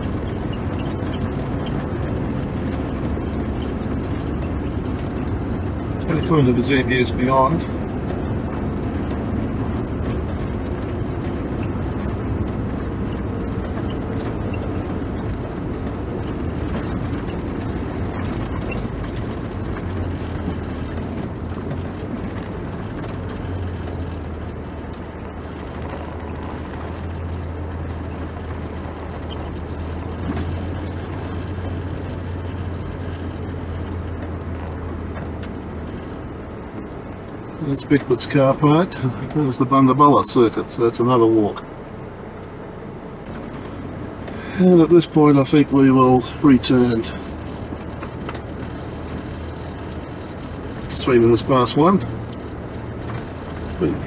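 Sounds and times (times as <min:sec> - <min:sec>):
car engine hum: 0:00.0 - 0:54.0
road rumble: 0:00.0 - 0:54.0.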